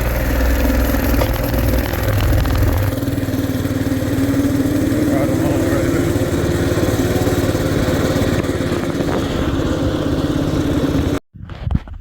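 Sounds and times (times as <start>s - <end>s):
small engine running: 0.0s - 11.2s.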